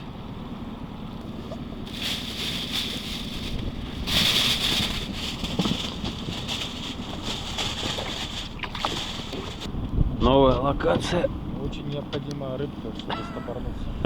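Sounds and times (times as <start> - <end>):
wind buffeting microphone: 0.4 - 12.1.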